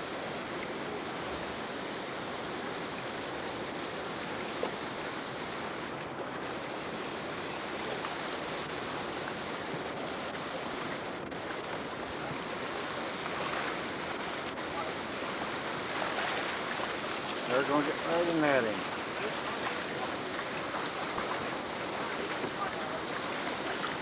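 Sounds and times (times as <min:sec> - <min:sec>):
river water rushing: 0:00.1 - 0:24.0.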